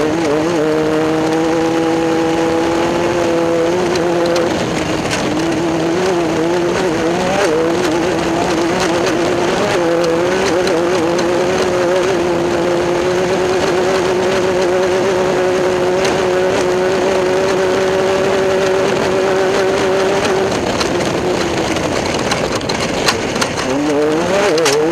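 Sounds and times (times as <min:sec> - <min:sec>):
constant rushing noise: 0:00.0 - 0:24.9
race car engine at high revs: 0:00.0 - 0:24.9.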